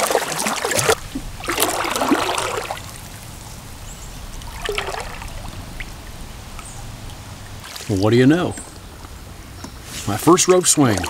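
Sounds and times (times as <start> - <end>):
hiss of moving water: 0.0 - 11.0
paddle splashing water: 0.0 - 11.0.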